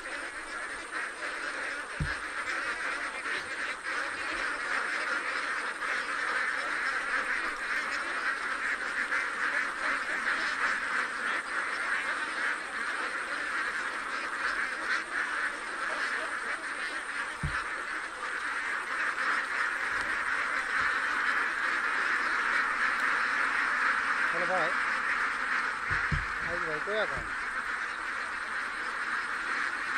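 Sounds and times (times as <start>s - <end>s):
flock of ducks quacking: 0.0s - 29.9s.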